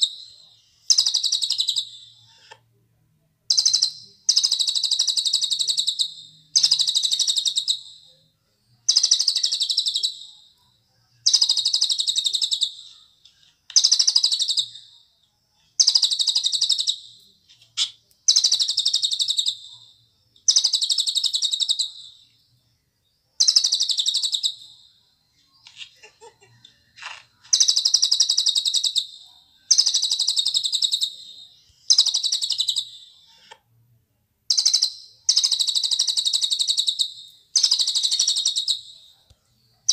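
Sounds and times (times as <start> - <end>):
songbird chattering song: 0.0 - 2.6, 3.5 - 8.2, 8.8 - 22.4, 23.0 - 33.6, 34.5 - 39.9.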